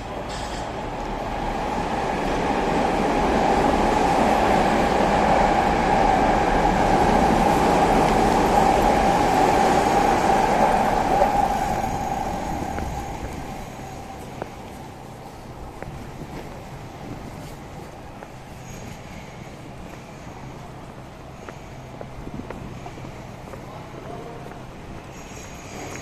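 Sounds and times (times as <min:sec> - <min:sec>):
train passing on viaduct: 0:00.0 - 0:26.0.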